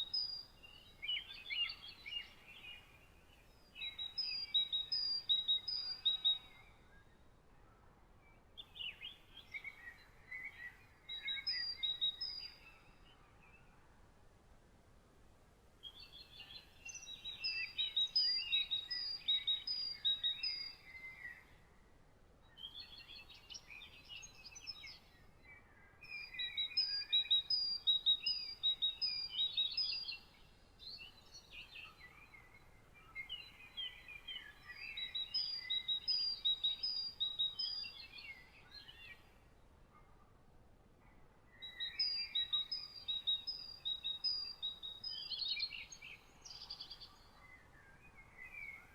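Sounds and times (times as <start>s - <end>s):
faint background hiss: 0.0s - 48.9s
songbird chirps and trills: 0.0s - 48.9s.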